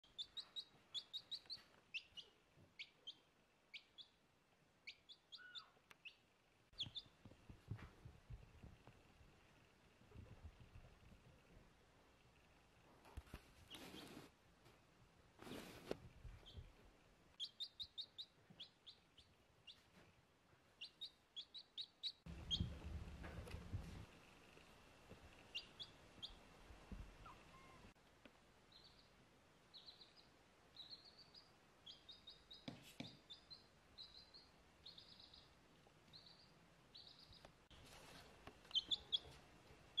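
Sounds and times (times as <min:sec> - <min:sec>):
baby chick peeping: 0:00.0 - 0:09.0, 0:09.6 - 0:14.3, 0:15.4 - 0:20.0, 0:20.6 - 0:27.9, 0:28.7 - 0:40.0.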